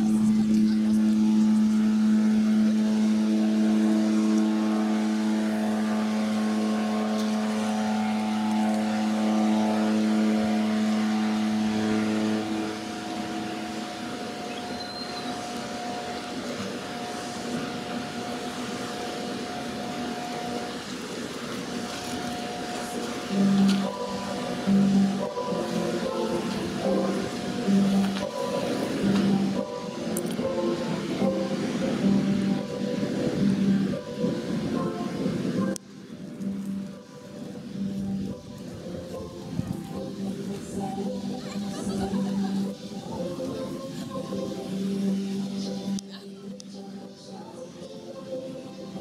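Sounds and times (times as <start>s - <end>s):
ship machinery hum: 0.0s - 49.0s.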